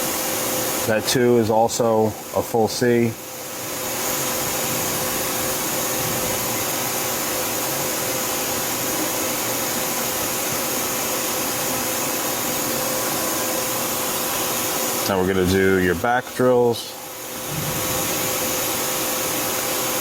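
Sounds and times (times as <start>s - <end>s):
lathe running with steady hiss: 0.0s - 20.0s.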